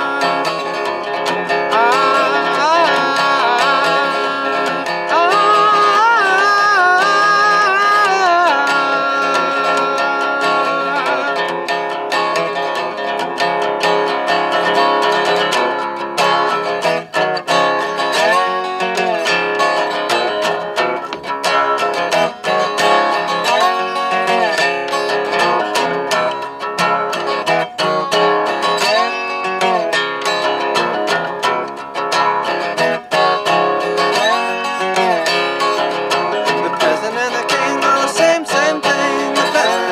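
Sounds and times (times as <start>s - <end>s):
resonator guitar plucked: 0.0s - 39.9s.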